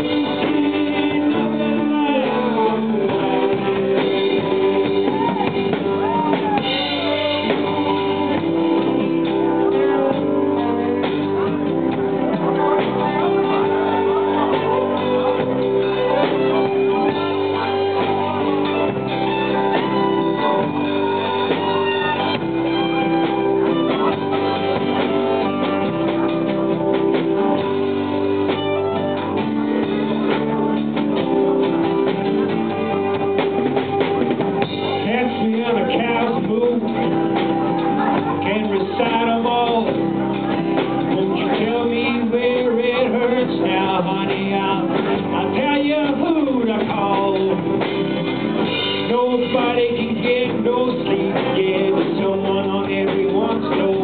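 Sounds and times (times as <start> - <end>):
person singing: 0.0 - 27.7, 34.6 - 54.0
live band playing: 0.0 - 54.0
strummed acoustic guitar: 0.0 - 54.0.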